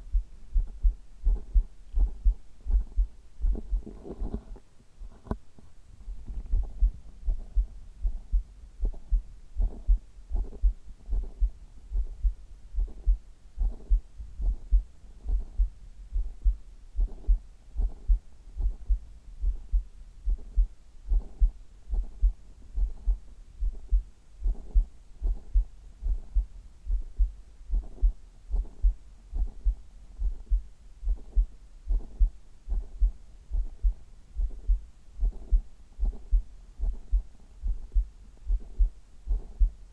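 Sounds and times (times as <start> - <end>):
human heartbeat: 0.0 - 5.4, 6.0 - 39.9.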